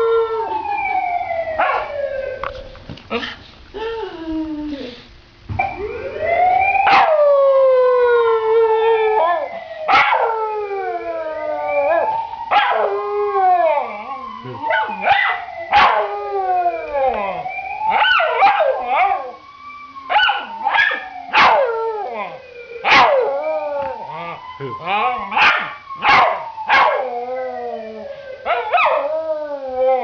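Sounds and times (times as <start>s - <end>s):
dog howling like a siren: 0.0s - 2.7s, 5.6s - 30.0s.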